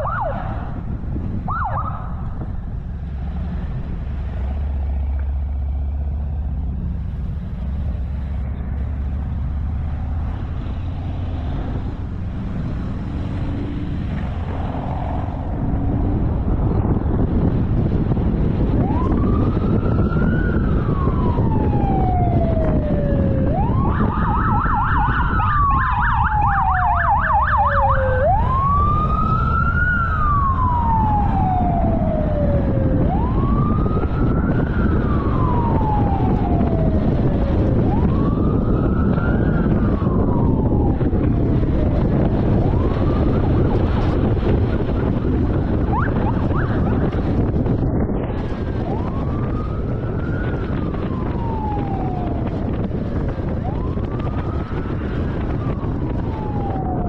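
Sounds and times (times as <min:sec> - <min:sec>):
siren yelp: 0:00.0 - 0:00.8, 0:01.4 - 0:02.3, 0:09.9 - 0:57.0
car road noise: 0:00.0 - 0:57.0
police siren wailing: 0:00.0 - 0:57.0.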